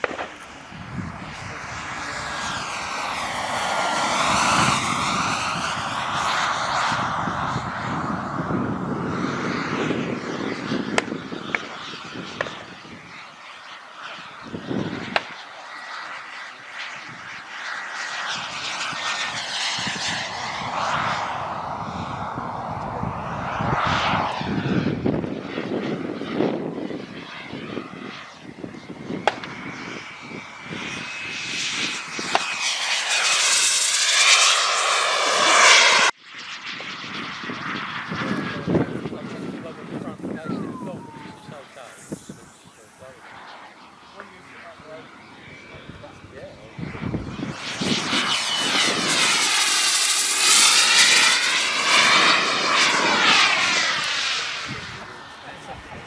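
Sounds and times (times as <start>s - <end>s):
model jet engine rushing: 0.0s - 56.0s.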